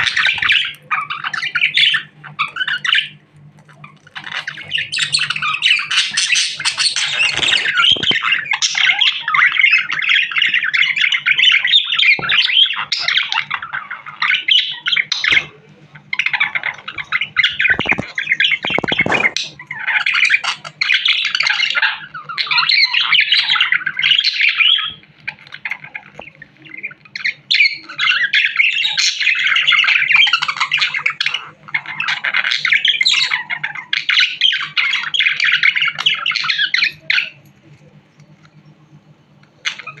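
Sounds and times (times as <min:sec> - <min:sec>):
budgerigar chattering and warbling: 0:00.0 - 0:38.0, 0:39.3 - 0:40.0.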